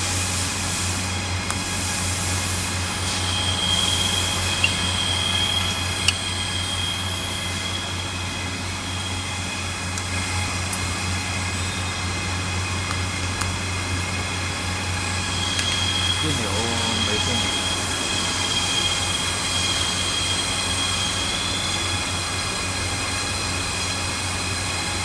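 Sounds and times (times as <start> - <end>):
welder buzzing with high whine: 0.0 - 25.0.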